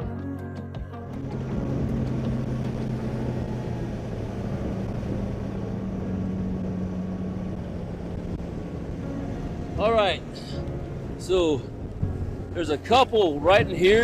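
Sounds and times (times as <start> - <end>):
outboard motor droning: 1.1 - 14.0
wind: 1.1 - 14.0.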